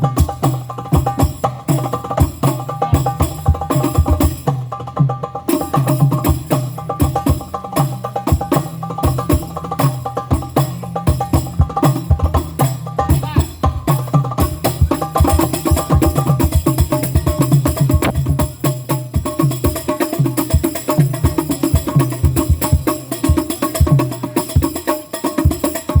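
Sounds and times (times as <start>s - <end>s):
deep drum beats: 0.0s - 26.0s
tambourine-like jingles: 0.1s - 26.0s.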